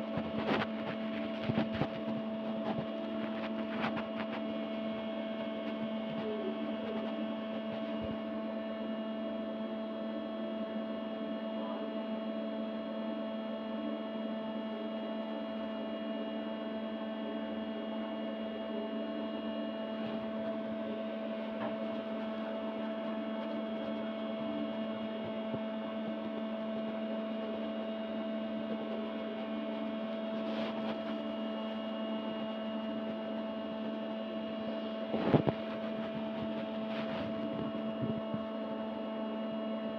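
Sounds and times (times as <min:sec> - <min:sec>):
steady hum of held tones: 0:00.0 - 0:39.9.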